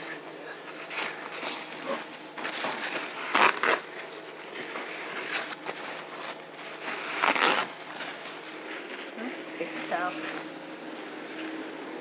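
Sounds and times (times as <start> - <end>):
paper towels tearing: 0.0 - 12.0.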